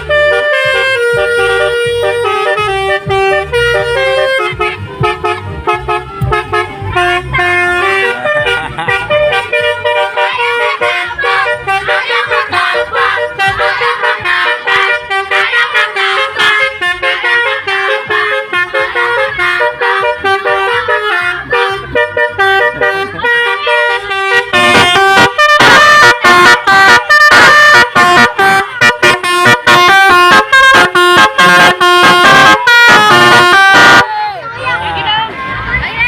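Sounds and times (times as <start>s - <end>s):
multi-tone bus horn tune: 0.0s - 35.1s.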